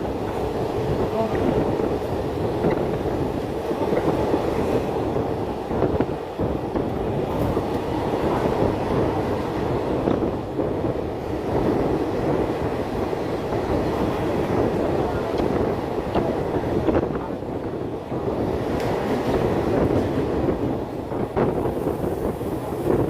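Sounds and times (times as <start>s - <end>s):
train rumbling on track: 0.0s - 23.0s.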